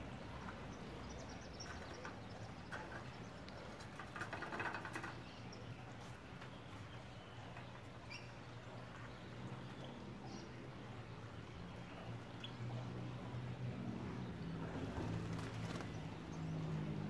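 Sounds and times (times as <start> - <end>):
small birds chirping faintly: 0.0 - 17.0.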